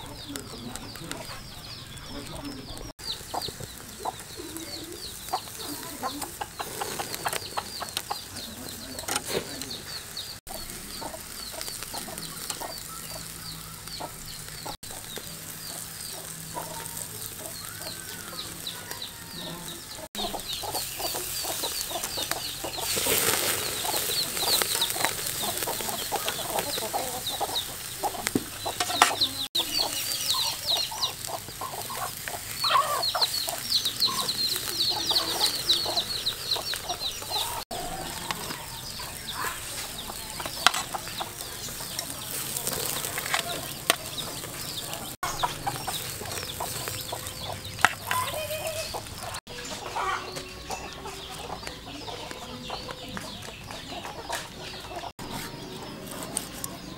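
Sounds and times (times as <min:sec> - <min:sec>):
meat sizzling on a grill: 0:00.0 - 0:52.9
chickens clucking: 0:00.0 - 0:56.9.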